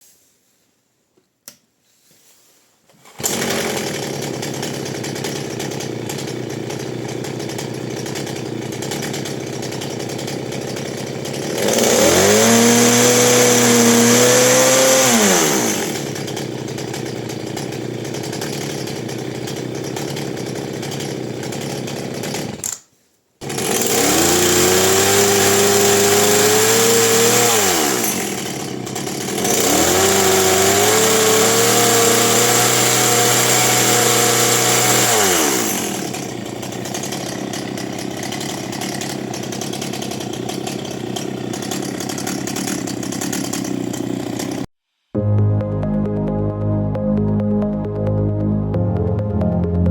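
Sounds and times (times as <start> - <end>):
chainsaw engine idling and revving: 3.1 - 22.8, 23.4 - 44.7.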